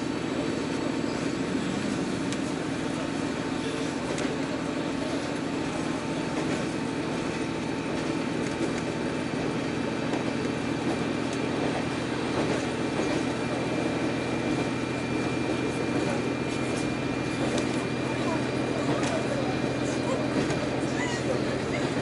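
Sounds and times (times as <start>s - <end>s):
railcar rumbling on rails: 0.0s - 22.0s.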